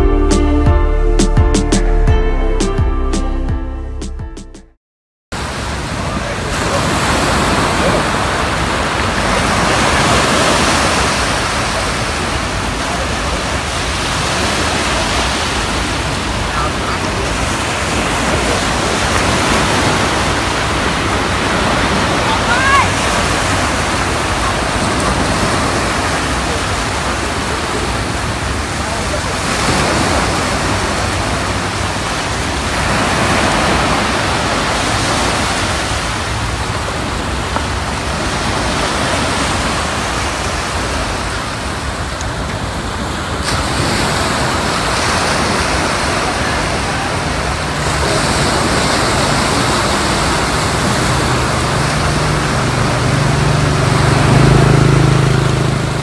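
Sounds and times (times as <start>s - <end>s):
surf washing onto beach: 5.4s - 56.0s.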